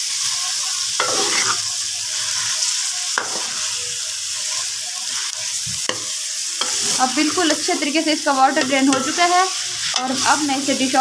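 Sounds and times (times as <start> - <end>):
curry sizzling in a pot: 0.0 - 11.0.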